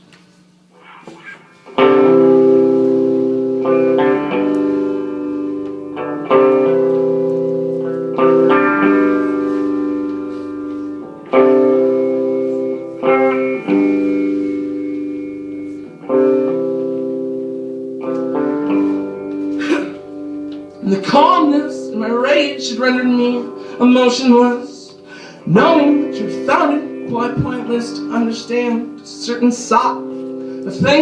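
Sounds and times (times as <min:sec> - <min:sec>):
guitar chords strummed: 0:00.0 - 0:31.0.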